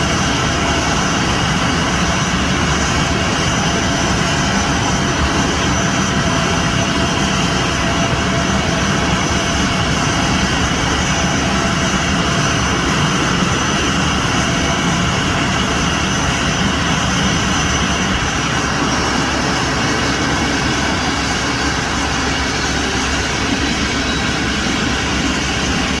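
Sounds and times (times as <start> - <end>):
jet engine high whine: 0.0 - 26.0
jet engines rumbling: 0.0 - 26.0.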